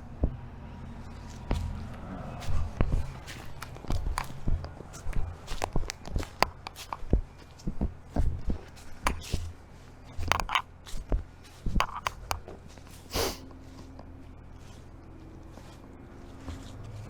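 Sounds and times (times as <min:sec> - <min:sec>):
footsteps crunching on debris: 0:00.0 - 0:17.0
foot scuffing ground: 0:00.1 - 0:17.0.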